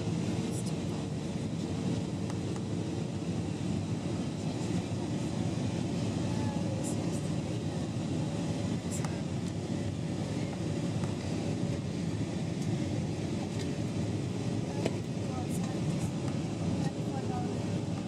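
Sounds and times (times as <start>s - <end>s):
low rumble of jet engines: 0.0s - 18.0s.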